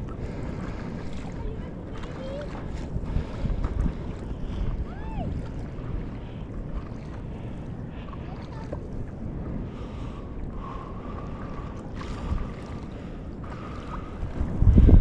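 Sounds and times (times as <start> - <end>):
water lapping and sloshing: 0.0 - 15.0
wind buffeting microphone: 0.0 - 15.0.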